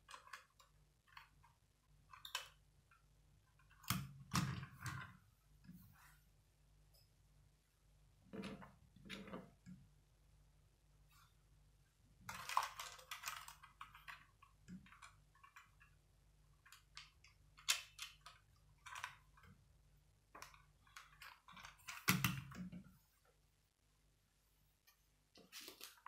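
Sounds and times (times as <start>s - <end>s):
plastic model set on table: 0.0s - 26.0s.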